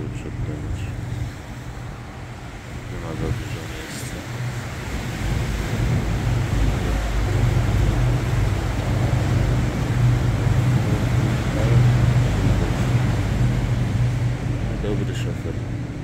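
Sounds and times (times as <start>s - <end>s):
boat engine droning: 0.0s - 16.0s
wind rumbling on microphone: 0.0s - 16.0s.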